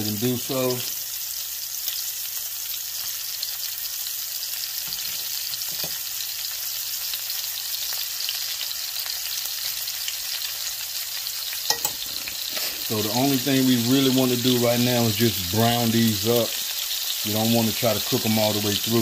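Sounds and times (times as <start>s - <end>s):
meat sizzling in oil: 0.0s - 19.0s.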